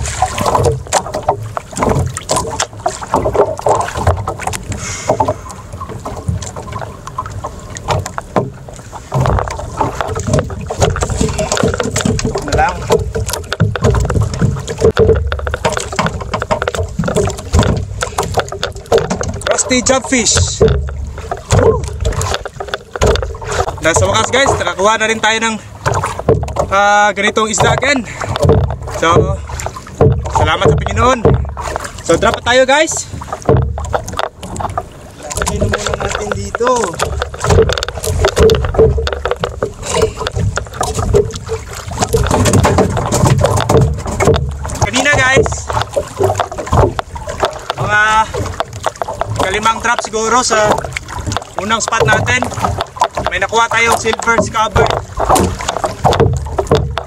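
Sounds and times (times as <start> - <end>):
clicks and knocks of reeling: 0.0 - 57.0
low rumble of wind: 0.0 - 57.0
water slapping against boat hull: 0.0 - 57.0.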